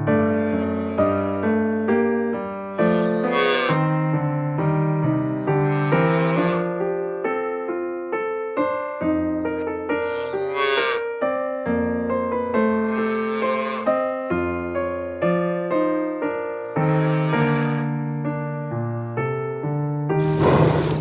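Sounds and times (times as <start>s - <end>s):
background piano music: 0.0s - 21.0s.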